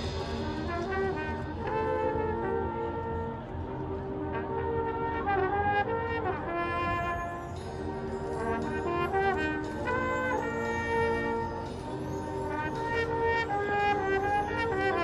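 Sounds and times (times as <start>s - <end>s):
marching band brass chords: 0.0s - 15.0s.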